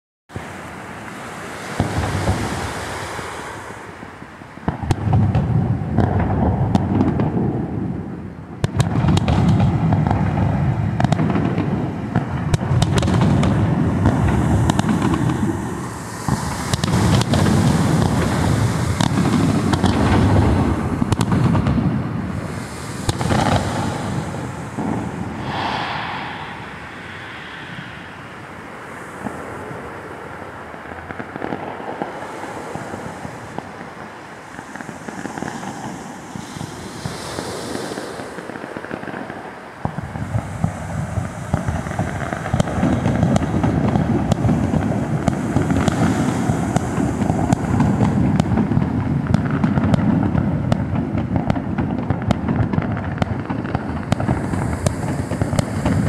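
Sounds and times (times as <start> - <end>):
fireworks booming and crackling: 1.7 - 2.9, 4.6 - 29.8, 30.8 - 56.0.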